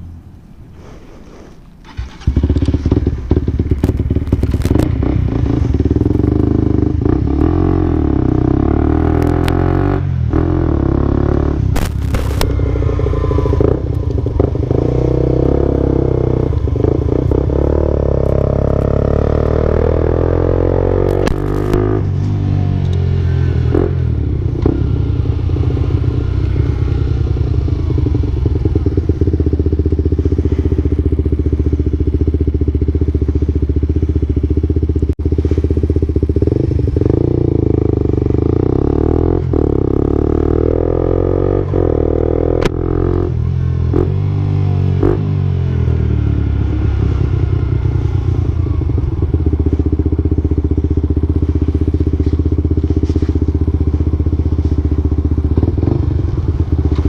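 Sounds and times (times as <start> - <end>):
motorcycle engine running: 1.9 - 57.0.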